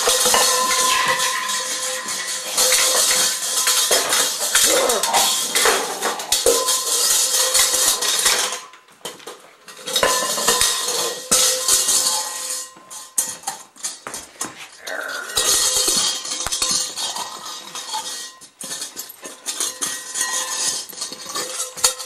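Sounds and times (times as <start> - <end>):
dog bowl clattering: 0.0 - 22.0.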